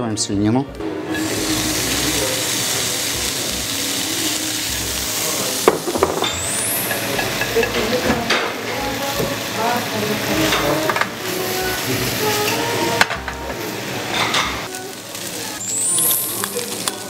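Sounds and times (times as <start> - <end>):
meat sizzling in a frying pan: 0.8 - 17.0.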